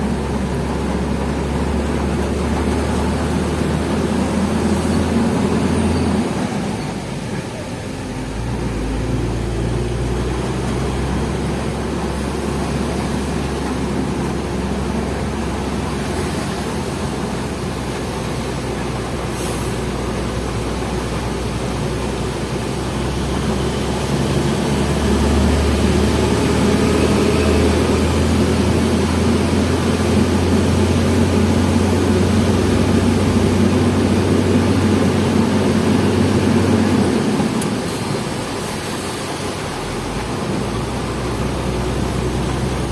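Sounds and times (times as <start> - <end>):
diesel truck engine droning: 0.0 - 42.9.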